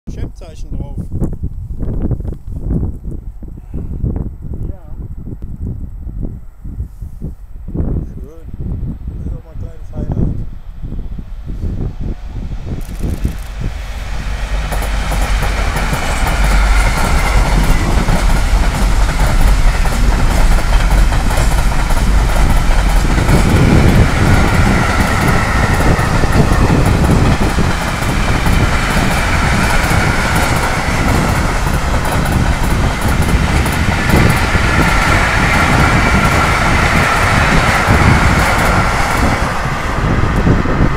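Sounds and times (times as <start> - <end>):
train wheel-on-rail rumble: 0.1 - 40.9.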